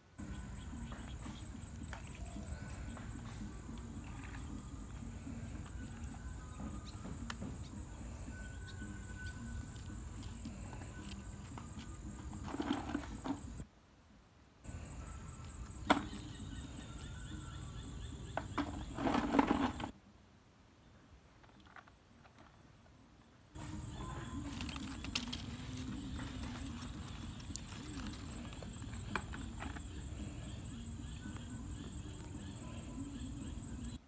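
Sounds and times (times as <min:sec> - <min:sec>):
insects trilling: 0:00.2 - 0:13.6, 0:14.7 - 0:19.9, 0:23.6 - 0:34.0.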